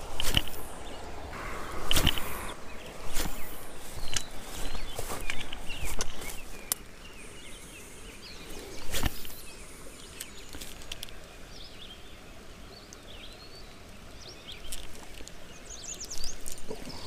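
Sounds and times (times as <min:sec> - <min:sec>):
outdoor hiss: 0:00.0 - 0:17.0
small birds chirping: 0:00.0 - 0:17.0.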